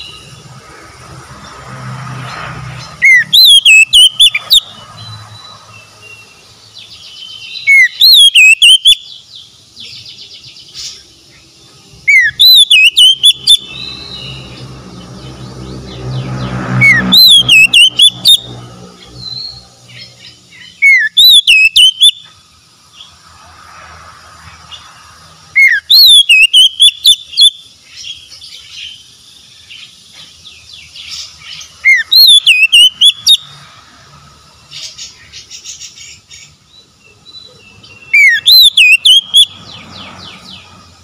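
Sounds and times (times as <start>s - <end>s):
bird singing whistled notes: 0.0s - 0.5s, 2.3s - 23.1s, 25.5s - 33.6s, 34.7s - 40.7s.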